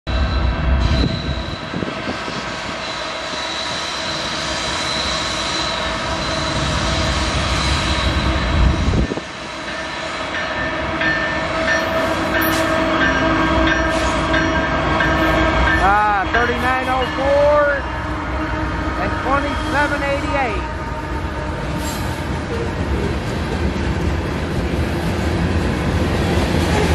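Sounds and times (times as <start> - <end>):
diesel locomotive engines: 0.1 - 26.9
rail noise with steady whine: 0.1 - 26.9.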